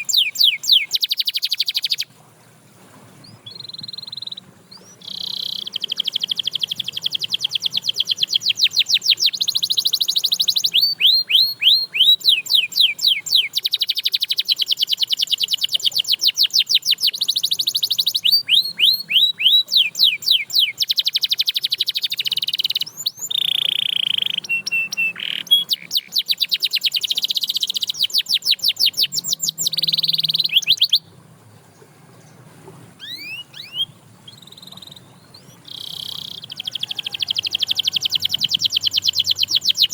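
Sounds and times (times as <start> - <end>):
canary singing trills: 0.0 - 2.1, 3.2 - 39.9
faint bird chirps: 0.0 - 2.1, 3.2 - 39.9.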